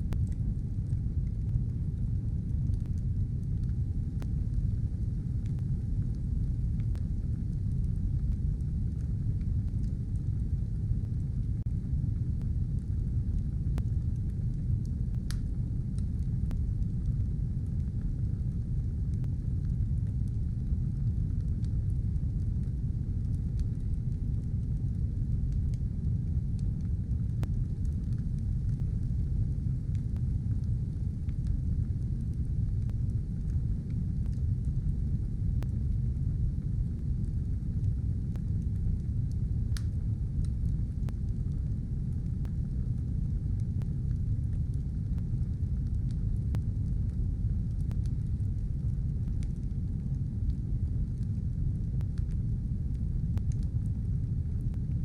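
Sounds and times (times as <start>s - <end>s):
fire crackling and popping: 0.0s - 55.0s
wood fire roaring in a stove: 0.0s - 55.0s.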